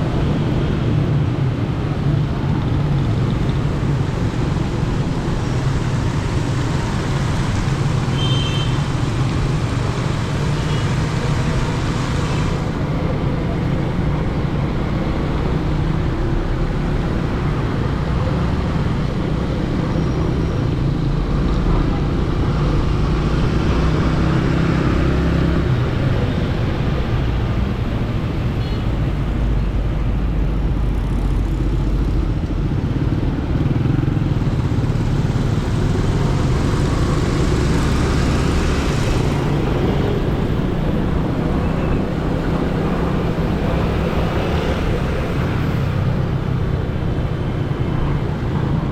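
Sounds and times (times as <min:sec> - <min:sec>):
road traffic humming: 0:00.0 - 0:48.9.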